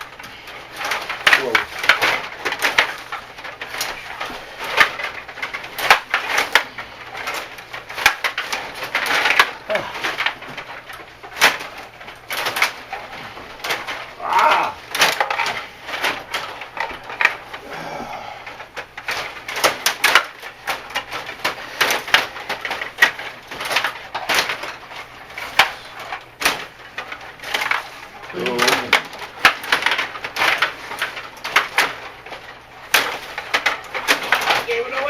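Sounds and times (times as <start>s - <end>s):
hockey sticks clacking: 0.0s - 17.6s, 18.6s - 35.0s.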